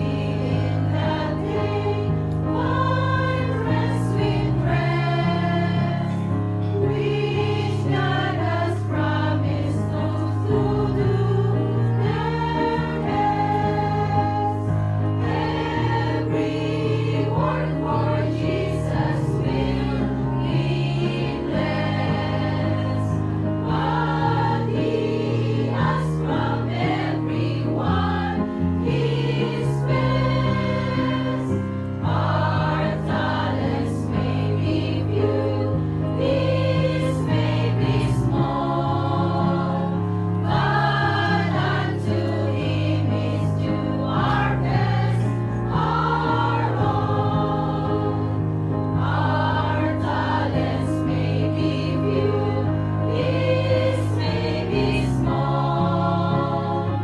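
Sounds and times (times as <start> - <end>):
women's choir singing: 0.0 - 57.0.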